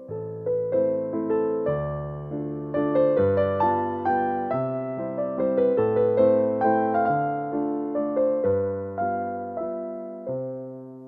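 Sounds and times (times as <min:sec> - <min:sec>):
gentle instrumental melody: 0:00.0 - 0:11.0.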